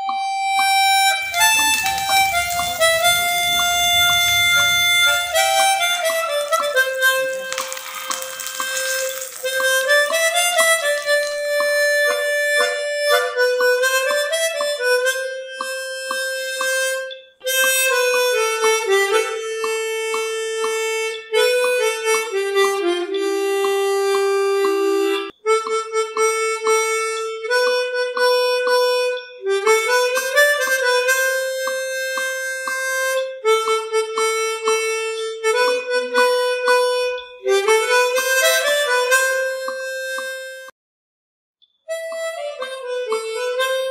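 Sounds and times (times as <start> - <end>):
instrumental music with reedy melody: 0.0 - 40.7, 41.6 - 43.9.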